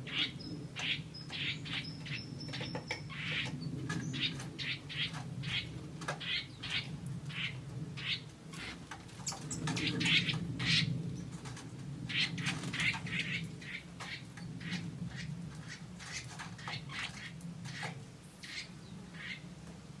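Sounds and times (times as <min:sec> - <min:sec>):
birds chirping: 0:00.0 - 0:11.4, 0:12.1 - 0:19.5.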